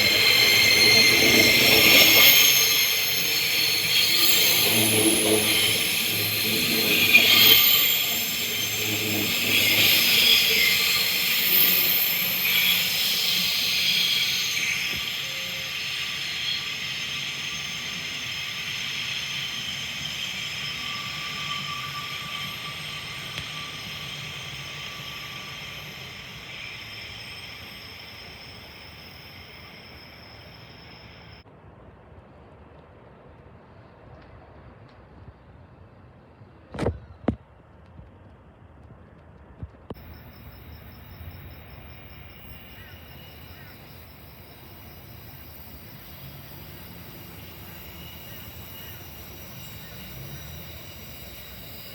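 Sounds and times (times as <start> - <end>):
train high whine: 0.0 - 36.7, 39.8 - 51.9
wheel and rail noise: 0.0 - 51.9.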